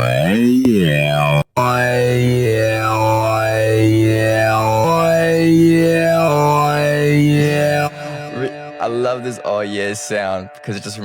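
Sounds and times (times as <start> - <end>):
synthesizer vocal-style chords: 0.0 - 11.0.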